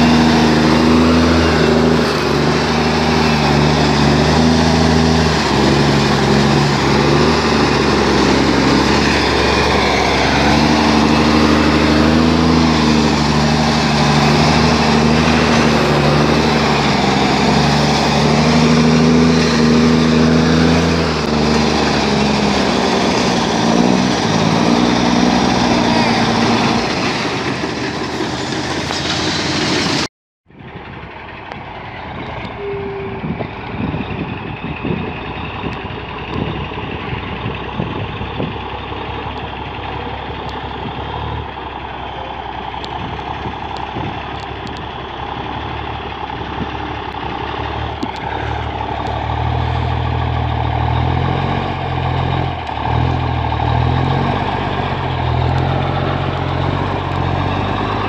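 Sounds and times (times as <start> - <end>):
heavy diesel truck engine running: 0.0 - 58.0.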